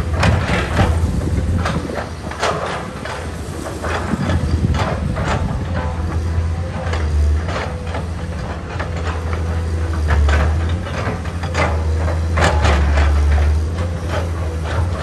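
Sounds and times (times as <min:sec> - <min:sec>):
excavator clanks and scrapes: 0:00.0 - 0:15.0
excavator engine droning: 0:00.0 - 0:15.0.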